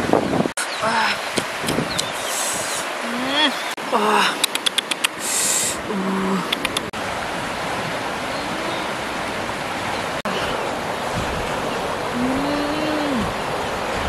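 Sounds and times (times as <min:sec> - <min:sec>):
river rushing over rapids: 0:00.0 - 0:14.0.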